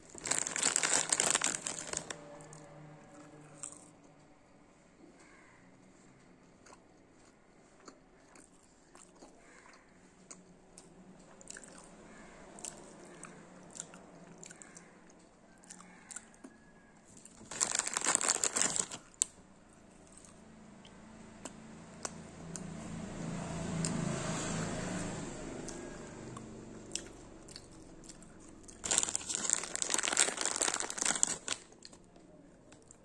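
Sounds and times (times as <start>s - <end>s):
mouth chewing sweets: 0.0s - 4.2s, 6.2s - 23.0s, 25.6s - 33.0s.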